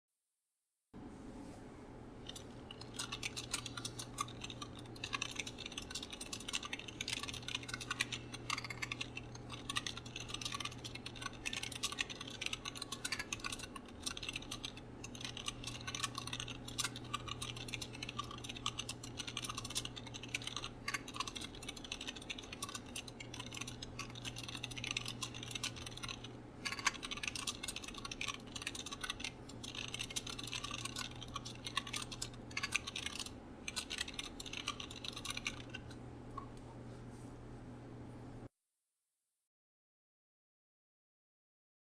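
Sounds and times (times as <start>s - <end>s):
steady low hum: 1.0s - 38.5s
fast keyboard typing: 2.2s - 36.0s.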